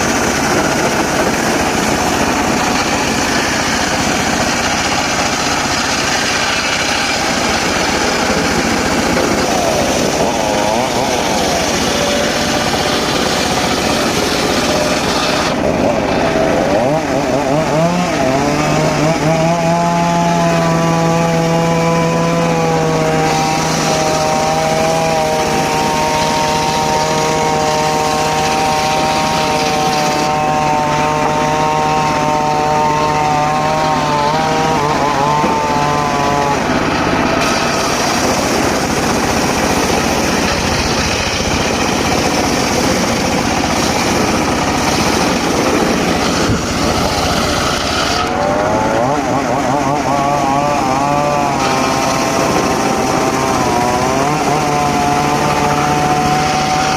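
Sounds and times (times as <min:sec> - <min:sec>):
circular saw engine running: 0:00.0 - 0:56.9
steady hum: 0:00.0 - 0:56.9.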